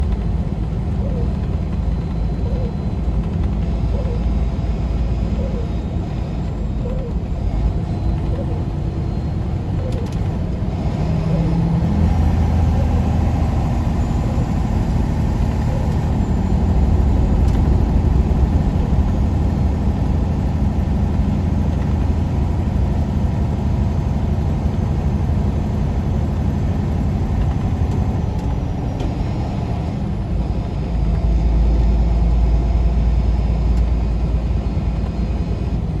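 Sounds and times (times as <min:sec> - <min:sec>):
road noise: 0:00.0 - 0:36.0
truck diesel engine running: 0:00.0 - 0:36.0.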